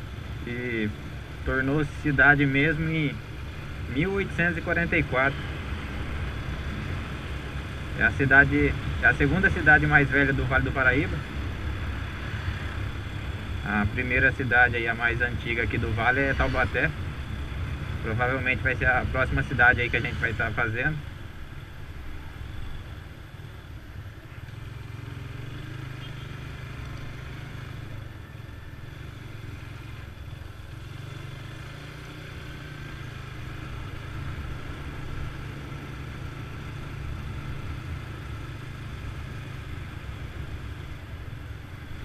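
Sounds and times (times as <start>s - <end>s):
motorcycle engine rumble: 0.0s - 42.0s.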